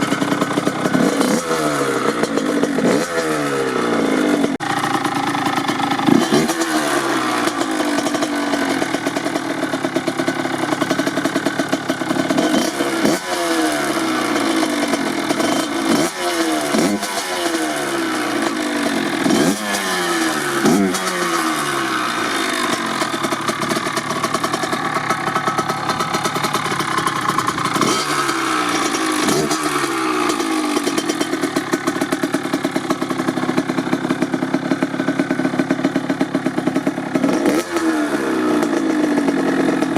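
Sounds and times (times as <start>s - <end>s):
two-stroke engine idling and revving: 0.0s - 39.9s.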